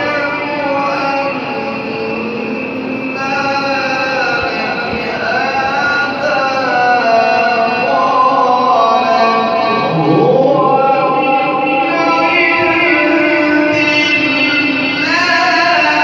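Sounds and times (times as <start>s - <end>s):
harmonium drone: 0.0s - 16.0s
man's melodic recitation: 0.0s - 16.0s.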